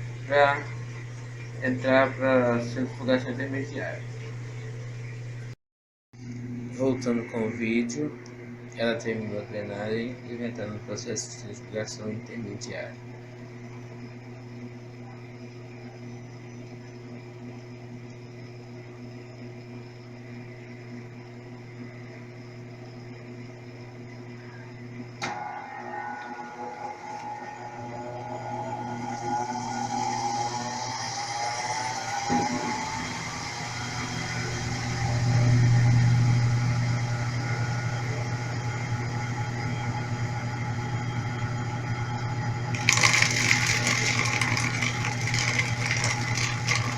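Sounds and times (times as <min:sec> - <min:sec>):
washing machine motor humming: 0:00.0 - 0:05.6, 0:06.2 - 0:46.9.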